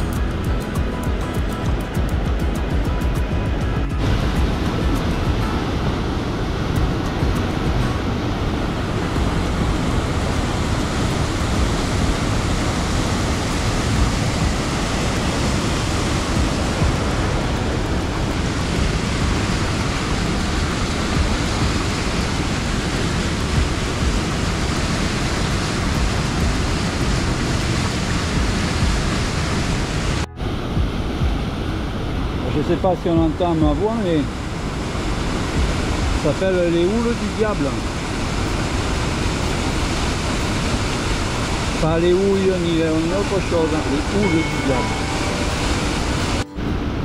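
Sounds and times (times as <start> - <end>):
white water rushing: 0.0 - 47.0.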